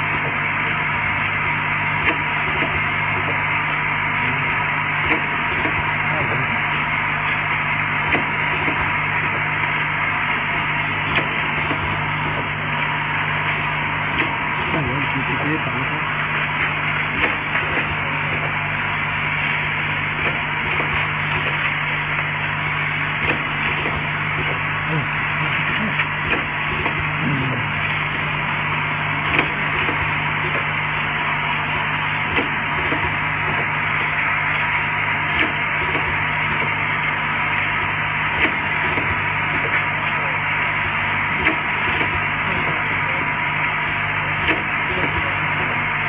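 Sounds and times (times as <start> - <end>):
low machine buzz: 0.0 - 46.0.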